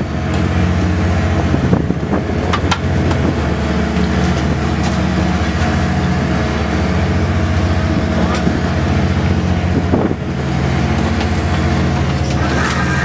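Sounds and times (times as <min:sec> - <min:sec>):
diesel engines droning: 0:00.0 - 0:13.0.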